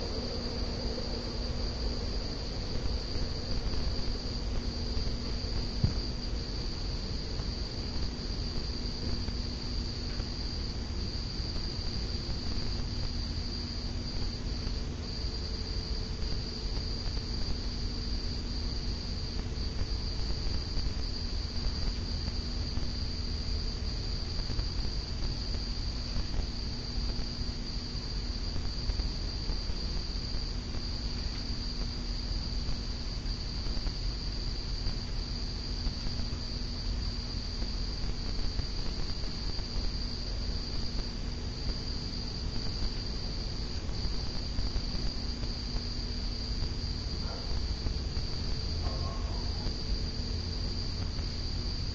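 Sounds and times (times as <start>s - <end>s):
ceiling fan motor hum: 0.0s - 51.9s.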